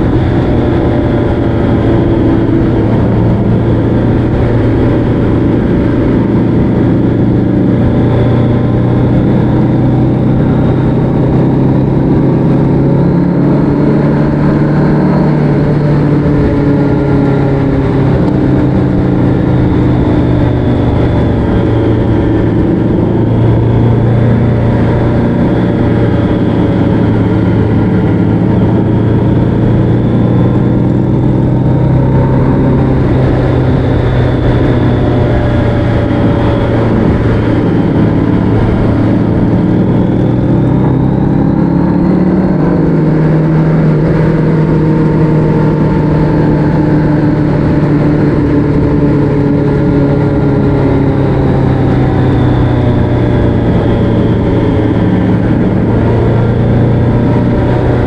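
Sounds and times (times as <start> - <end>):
vehicle engine cruising: 0.0 - 58.0.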